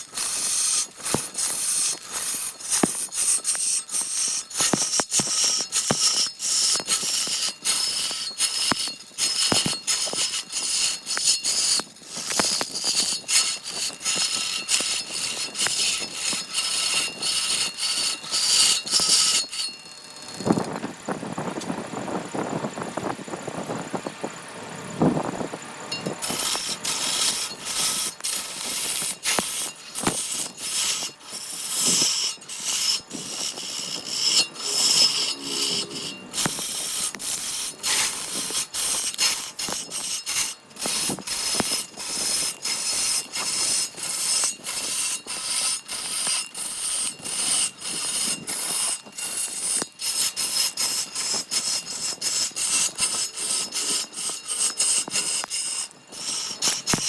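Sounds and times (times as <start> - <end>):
hand tool rasping wood: 0.0 - 20.8, 26.0 - 57.0.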